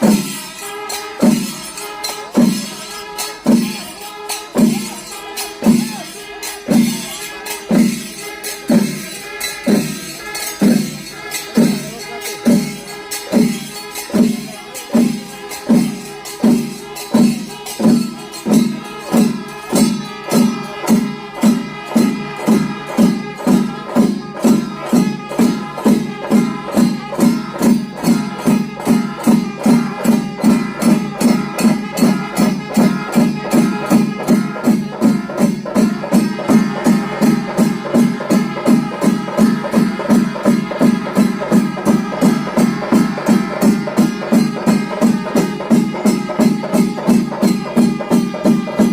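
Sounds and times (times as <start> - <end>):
drums pounding: 0.0 - 48.9
hand cymbals: 0.0 - 48.9.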